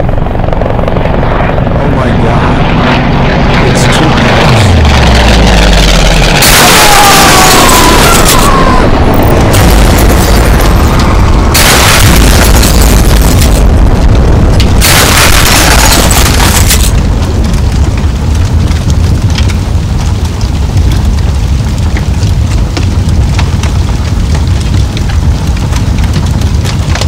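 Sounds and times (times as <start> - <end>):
continuous deep rumble: 0.0 - 27.0
explosion blasts: 2.0 - 27.0.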